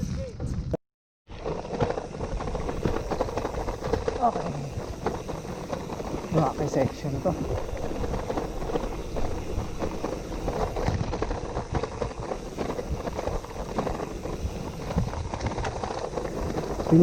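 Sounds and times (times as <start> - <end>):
bike rattling: 1.3 - 17.0
tyres crunching on gravel: 1.3 - 17.0.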